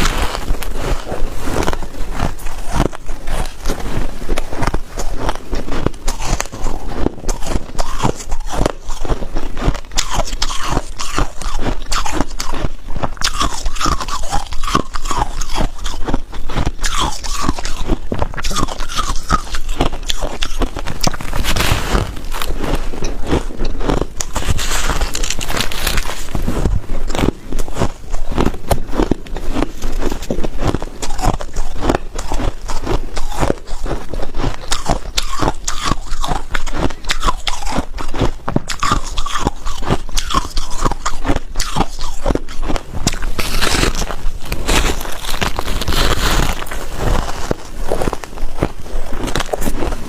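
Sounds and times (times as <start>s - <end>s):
ice cubes being crunched: 0.0s - 50.0s.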